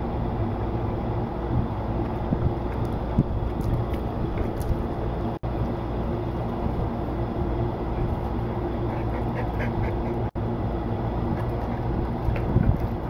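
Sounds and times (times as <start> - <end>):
drum fan humming: 0.0 - 13.0.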